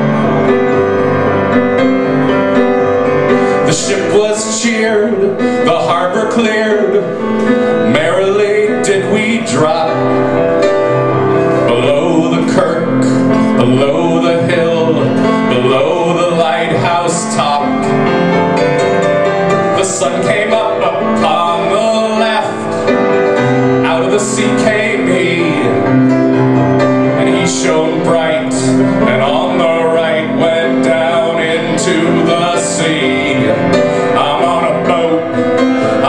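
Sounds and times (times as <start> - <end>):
piano chords: 0.0 - 36.0
man singing: 3.3 - 36.0.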